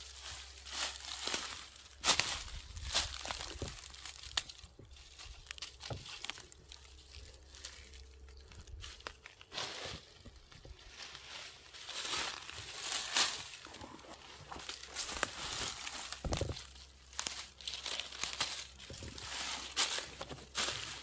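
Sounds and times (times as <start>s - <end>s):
footsteps through dry leaves: 0.0s - 21.0s.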